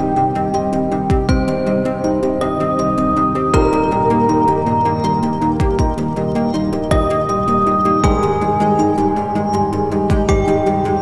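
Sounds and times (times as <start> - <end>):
music of long held notes: 0.0 - 11.0.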